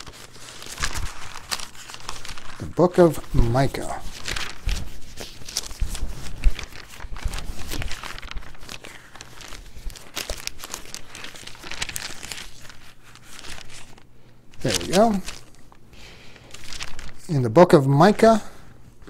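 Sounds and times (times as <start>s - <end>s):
thin pages rustling: 0.0s - 17.3s.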